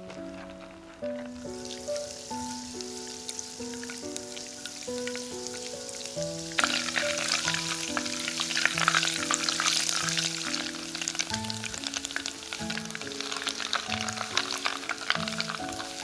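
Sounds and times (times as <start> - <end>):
background music with sustained notes: 0.0 - 16.0
butter crackling and sizzling: 0.0 - 16.0
spatula stirring: 1.3 - 16.0.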